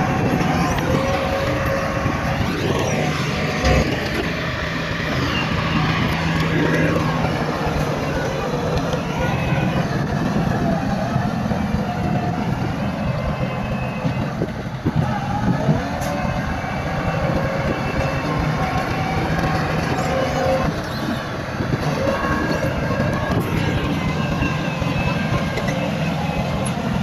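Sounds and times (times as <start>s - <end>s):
diesel engine under load: 0.0s - 27.0s
steel tracks clanking: 0.0s - 27.0s.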